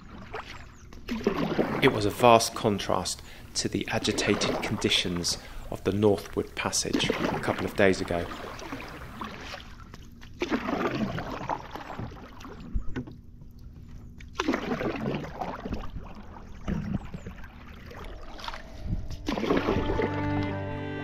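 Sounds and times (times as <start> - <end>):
paddle splashing through water: 0.0 - 20.4.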